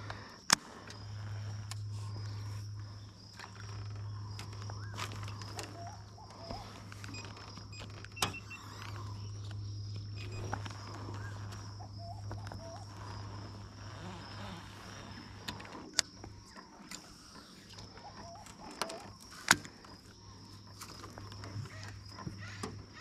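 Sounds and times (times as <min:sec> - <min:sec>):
insect drone: 0:00.0 - 0:23.0
trolling motor humming: 0:00.0 - 0:23.0.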